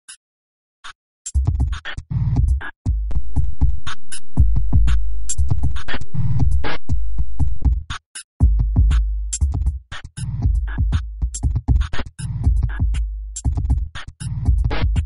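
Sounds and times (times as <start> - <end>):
electronic music with heavy bass: 1.3 - 15.0.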